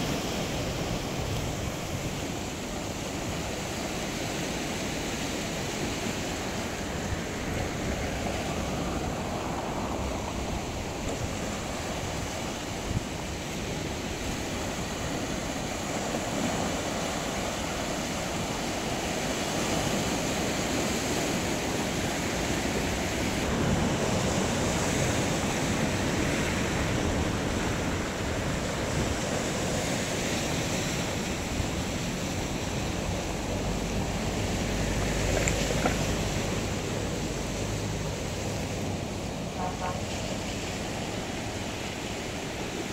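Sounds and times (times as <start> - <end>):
sea surf washing ashore: 0.0 - 42.9.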